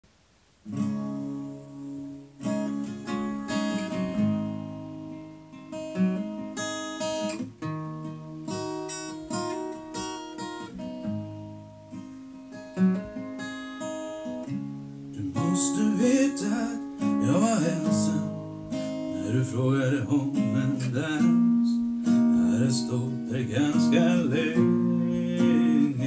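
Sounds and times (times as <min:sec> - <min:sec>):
acoustic guitar strumming chords: 0:00.6 - 0:26.0.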